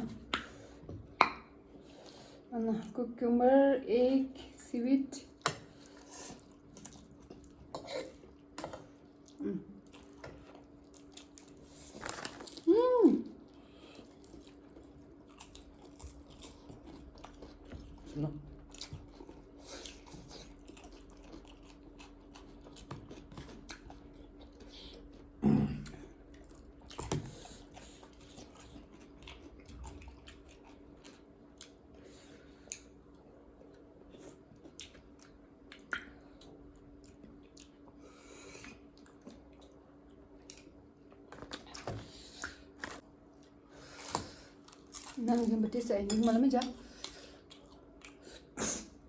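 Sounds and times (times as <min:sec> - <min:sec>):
faint steady hum: 0:00.0 - 0:49.0
chewing food: 0:05.2 - 0:12.7, 0:13.3 - 0:48.6.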